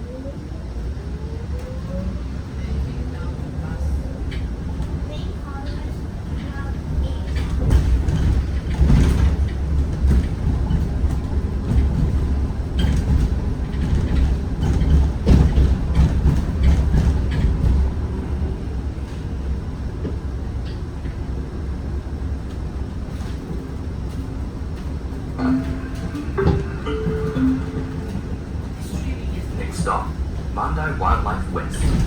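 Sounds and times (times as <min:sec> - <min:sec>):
bus engine and road rumble: 0:00.0 - 0:32.0.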